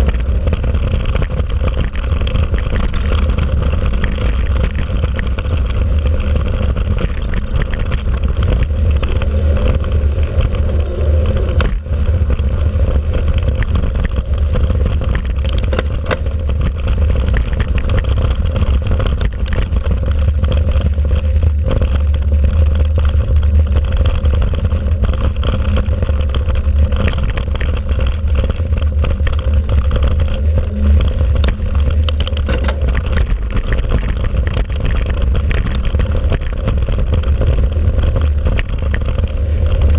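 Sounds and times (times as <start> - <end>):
bike rattling over bumps: 0.0 - 39.9
tyre vibration rumble: 0.0 - 39.9.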